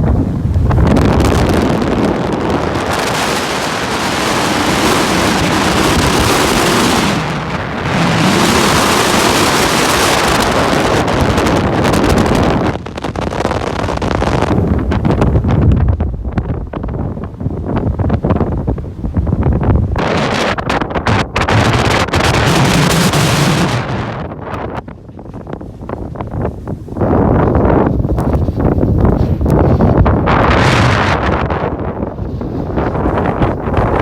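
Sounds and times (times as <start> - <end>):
strong wind buffeting microphone: 0.0 - 34.0.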